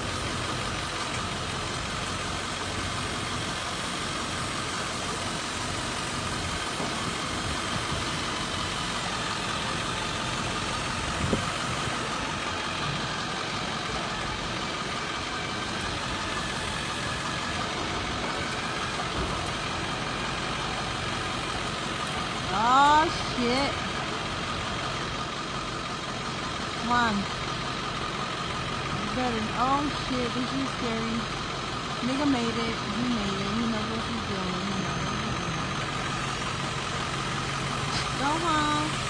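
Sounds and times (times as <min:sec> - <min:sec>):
hydraulic whine: 0:00.0 - 0:39.0
truck engine idling: 0:00.0 - 0:39.0.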